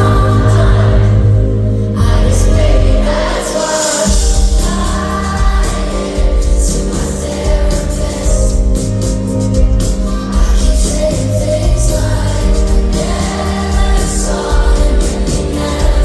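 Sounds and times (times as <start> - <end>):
crowd singing along: 0.0 - 16.0
live pop band music: 0.0 - 16.0
woman singing: 2.0 - 9.1, 9.8 - 16.0.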